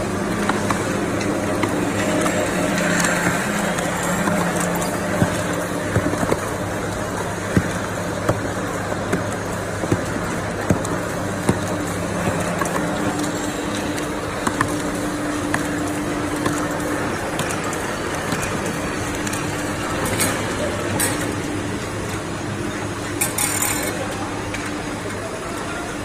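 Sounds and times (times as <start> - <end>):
machinery hum and rattle: 0.0 - 26.0.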